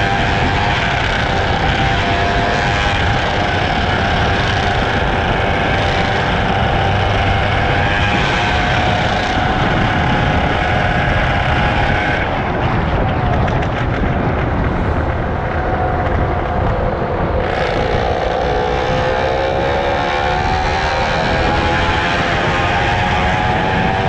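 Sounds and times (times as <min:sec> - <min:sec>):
motorcycle engine running: 0:00.0 - 0:24.0
wind rush: 0:00.0 - 0:24.0.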